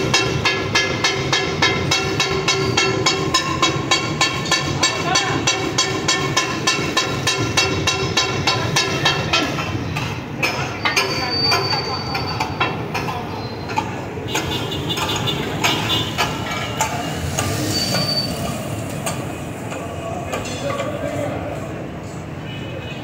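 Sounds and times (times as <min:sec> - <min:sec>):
spatulas clanging on steel griddle: 0:00.0 - 0:21.2.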